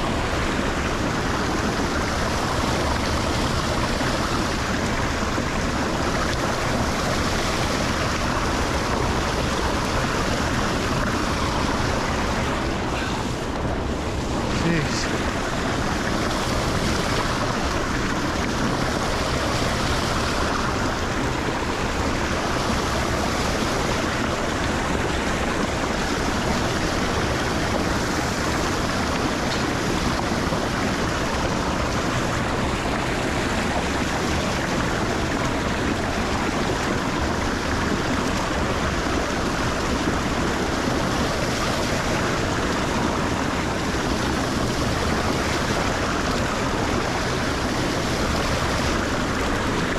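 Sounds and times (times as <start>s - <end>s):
water rushing into drain: 0.0s - 49.9s.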